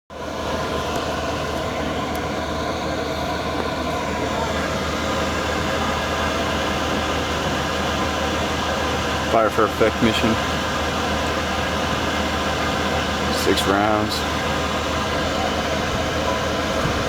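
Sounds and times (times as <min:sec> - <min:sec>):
machine droning hum: 0:00.1 - 0:17.0.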